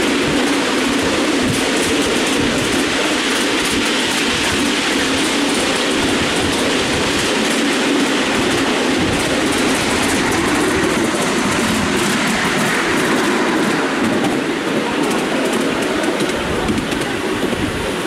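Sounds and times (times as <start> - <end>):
faint irregular track clicks: 0.0 - 17.7
train wheels rumbling on rail: 0.0 - 18.0.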